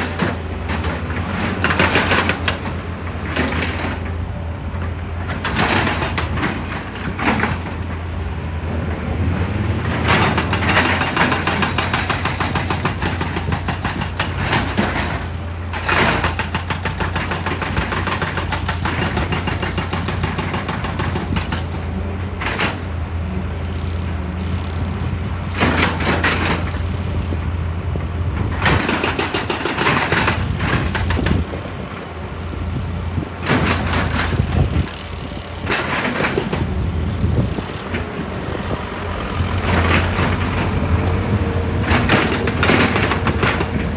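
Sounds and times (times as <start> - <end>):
diesel excavator engine running: 0.0 - 43.9.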